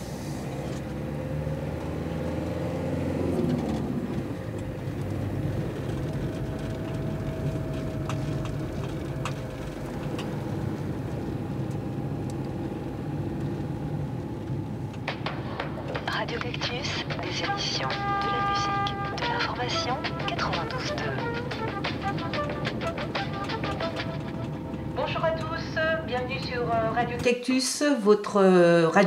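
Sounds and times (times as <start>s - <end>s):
car engine: 0.0s - 27.4s
road noise: 0.0s - 27.6s.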